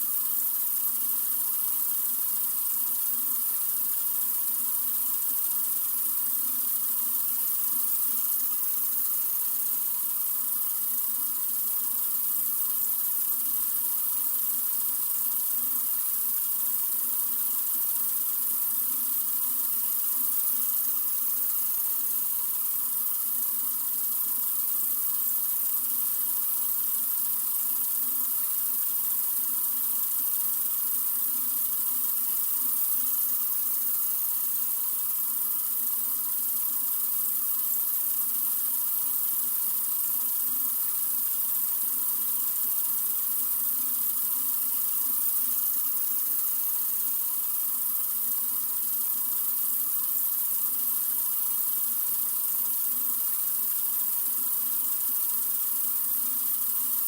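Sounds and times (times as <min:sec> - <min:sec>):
water running from faucet: 0:00.0 - 0:57.0.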